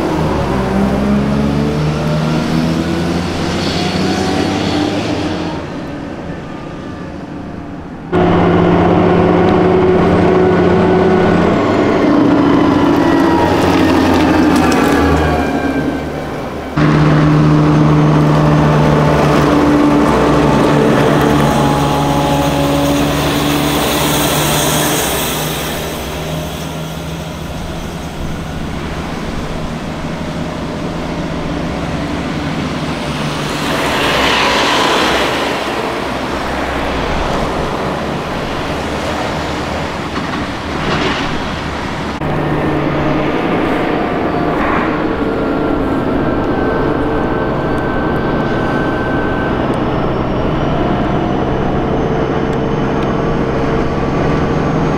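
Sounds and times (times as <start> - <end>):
armoured vehicles driving past: 0.0 - 54.9.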